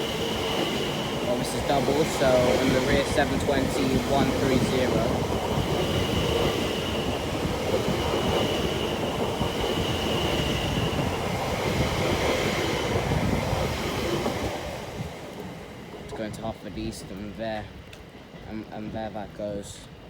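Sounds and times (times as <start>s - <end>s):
train running over points: 0.0s - 20.0s.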